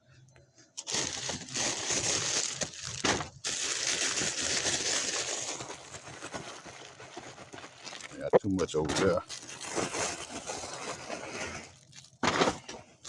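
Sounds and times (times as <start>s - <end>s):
packaging crinkling and crushing: 0.8s - 8.3s, 8.9s - 13.0s.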